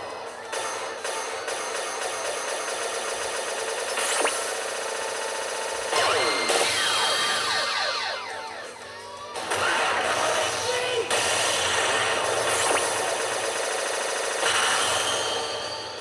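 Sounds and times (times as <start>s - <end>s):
pachinko machine electronic effects: 0.0s - 16.0s.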